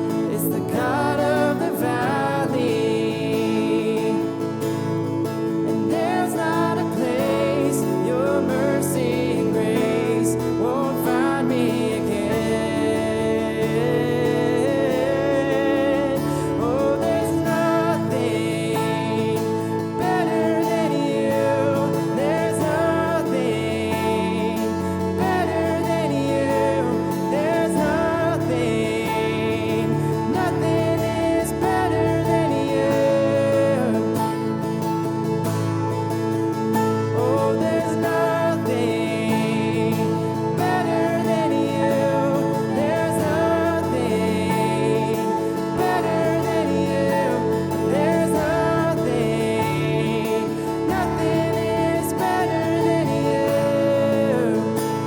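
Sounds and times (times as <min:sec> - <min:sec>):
acoustic guitar: 0:00.0 - 0:55.0
held instrumental chords: 0:00.0 - 0:55.0
person singing: 0:00.0 - 0:55.0
sustained accompaniment: 0:00.0 - 0:55.0.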